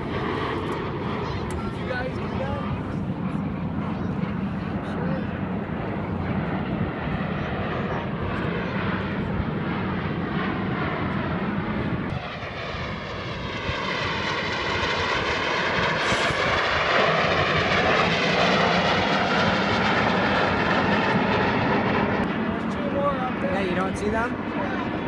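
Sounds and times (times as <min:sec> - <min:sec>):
jets flying over: 0:00.0 - 0:25.0
low jet passing whoosh: 0:00.0 - 0:25.0.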